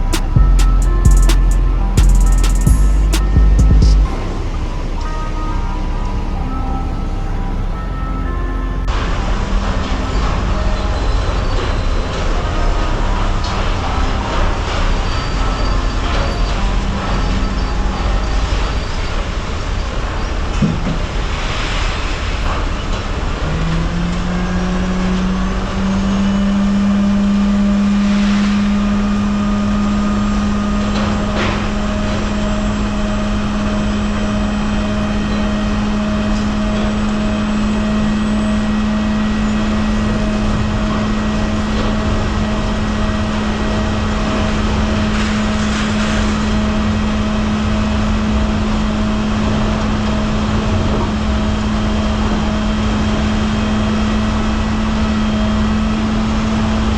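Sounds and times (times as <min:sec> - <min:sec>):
truck engine running: 0:00.0 - 0:21.0, 0:23.3 - 0:56.9
road noise: 0:00.0 - 0:56.9.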